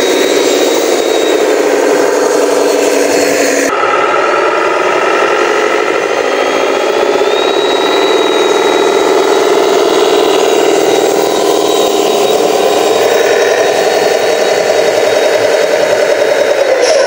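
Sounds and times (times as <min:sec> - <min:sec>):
electric motor and gearbox whining: 0:00.0 - 0:17.0.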